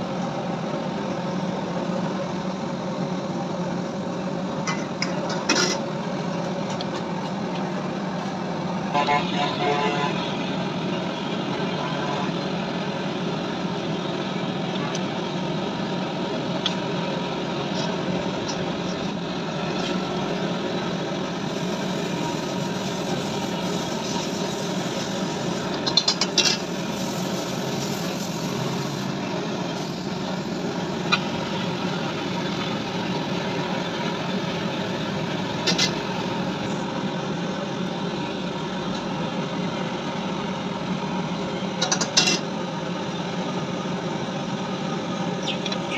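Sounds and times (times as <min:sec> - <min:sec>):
steady mechanical drone: 0:00.0 - 0:45.9.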